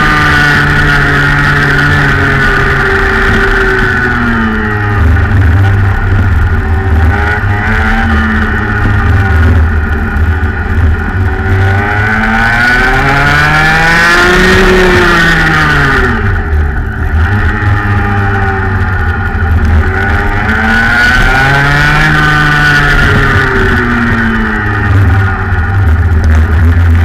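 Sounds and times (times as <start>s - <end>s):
kart engine at racing speed: 0.0s - 27.0s.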